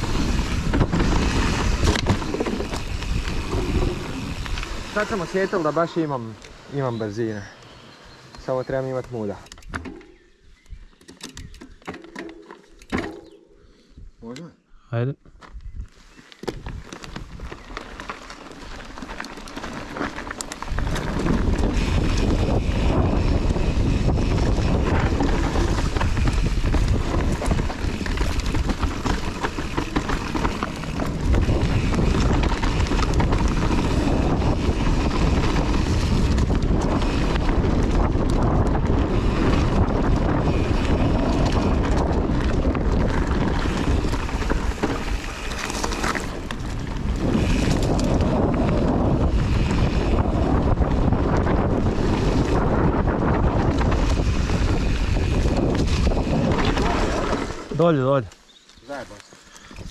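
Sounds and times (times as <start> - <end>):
bike knocks and rattles: 0.0 - 4.6, 9.4 - 10.3, 11.0 - 13.4, 16.4 - 57.8
wind buffeting microphone: 0.0 - 7.4, 15.5 - 58.3, 58.9 - 59.9
tyres rumbling over dirt: 0.0 - 10.2, 16.4 - 59.9.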